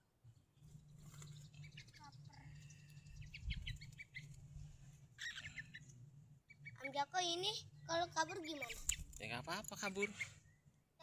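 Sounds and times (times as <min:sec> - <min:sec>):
birds chirping faintly: 0:00.6 - 0:10.8.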